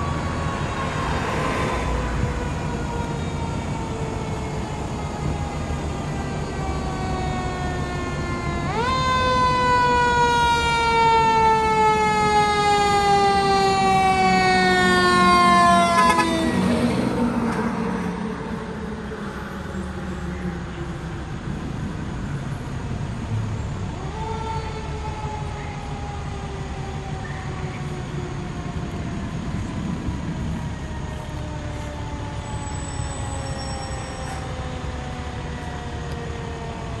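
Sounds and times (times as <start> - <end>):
fire truck engine and road noise: 0.0 - 37.0.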